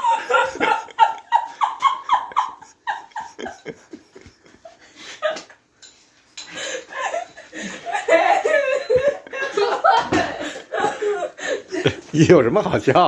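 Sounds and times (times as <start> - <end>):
person laughing: 0.0 - 5.5, 6.6 - 12.1.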